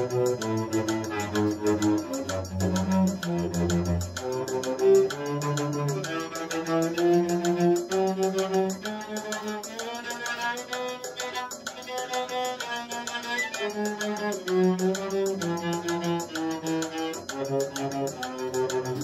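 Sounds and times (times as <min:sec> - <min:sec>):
bowed cello melody: 0:00.0 - 0:19.0.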